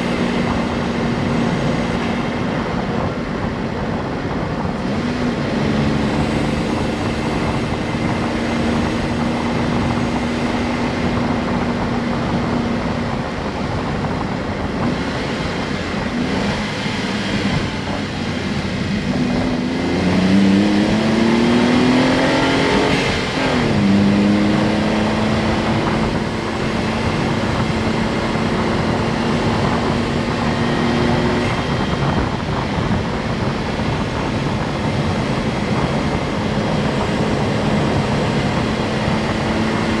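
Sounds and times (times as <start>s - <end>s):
car engine revving while driving: 0.0s - 40.0s.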